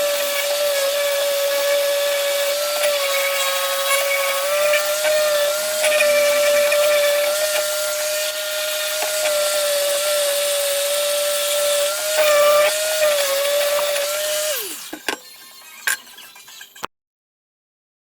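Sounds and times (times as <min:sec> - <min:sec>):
power tool motor whining: 0:00.0 - 0:16.8.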